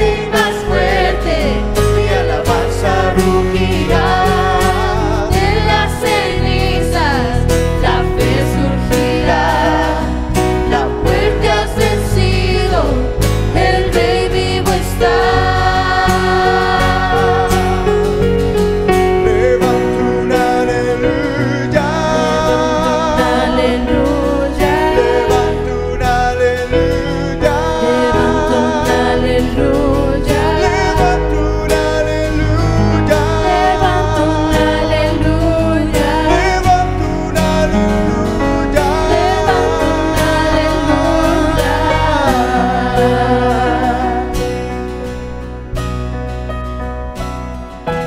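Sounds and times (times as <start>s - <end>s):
voices singing together: 0.0s - 18.4s, 19.2s - 45.1s
acoustic guitar: 0.0s - 48.0s
bass guitar: 0.0s - 48.0s
keyboard: 0.0s - 48.0s.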